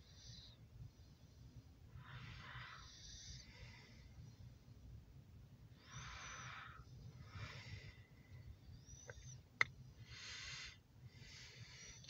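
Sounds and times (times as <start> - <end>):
soft breathing: 0.0 - 5.0, 5.6 - 12.0
low steady rumble: 0.0 - 12.0.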